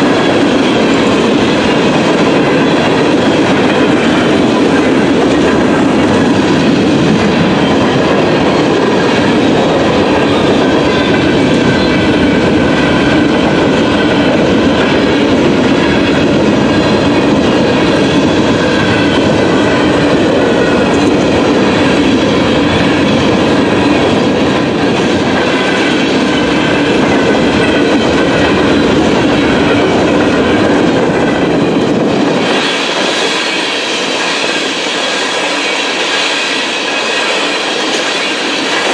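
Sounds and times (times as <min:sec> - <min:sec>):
freight train wheels rumbling: 0:00.0 - 0:38.9
rhythmic clatter over rail joints: 0:00.0 - 0:38.9.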